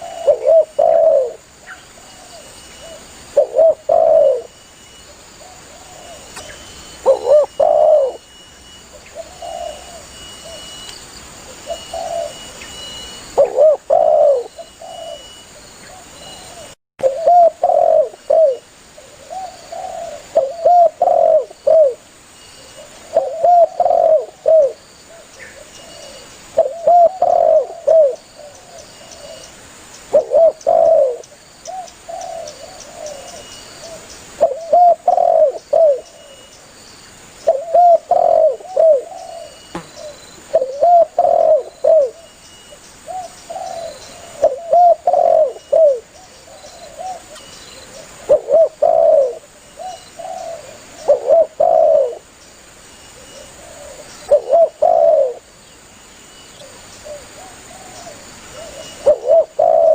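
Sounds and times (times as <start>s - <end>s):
dove cooing: 0.0s - 4.5s, 5.4s - 8.3s, 8.9s - 10.8s, 11.5s - 12.6s, 13.3s - 22.0s, 22.6s - 29.5s, 30.1s - 36.4s, 37.5s - 42.4s, 43.1s - 52.3s, 53.2s - 55.5s, 56.6s - 59.9s.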